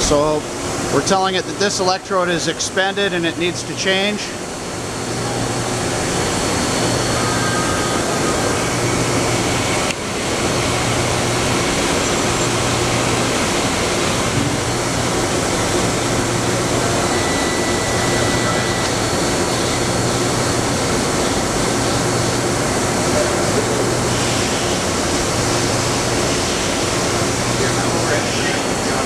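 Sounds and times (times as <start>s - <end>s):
low hum cutting in and out: 0.0s - 29.0s
machine hiss: 4.2s - 29.0s.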